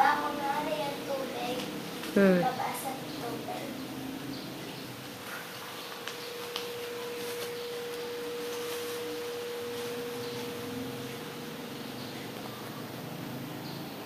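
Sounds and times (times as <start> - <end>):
faint room noise: 0.0 - 14.0.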